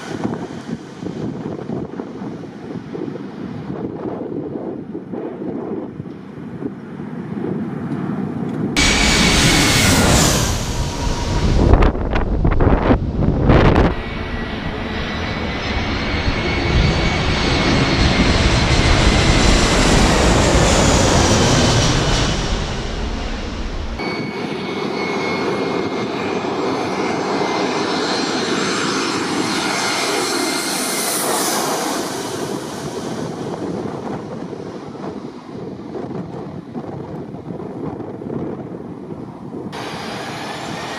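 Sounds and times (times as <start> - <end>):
jet engines rushing and whining: 0.0 - 40.9.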